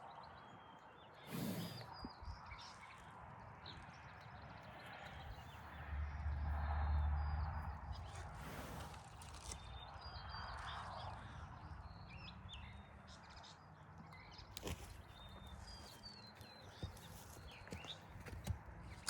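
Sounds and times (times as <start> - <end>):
small birds chirping: 0.0 - 5.8, 7.6 - 19.0.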